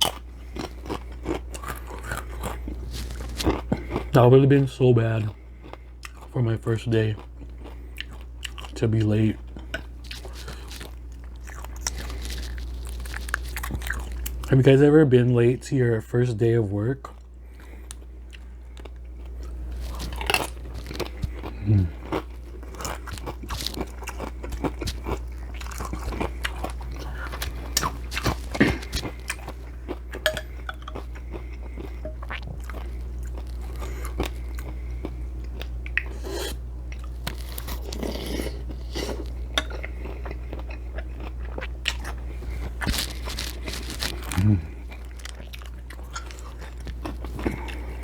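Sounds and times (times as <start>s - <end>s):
close chewing and crunching: 0.0s - 15.5s, 16.8s - 48.0s
steady low hum: 0.0s - 48.0s.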